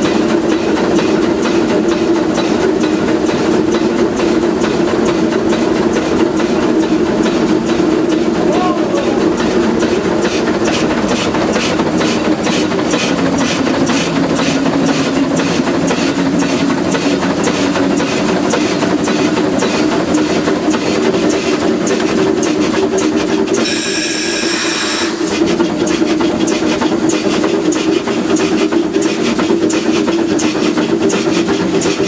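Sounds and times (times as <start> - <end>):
steam locomotive exhaust beats: 0.0 - 32.0.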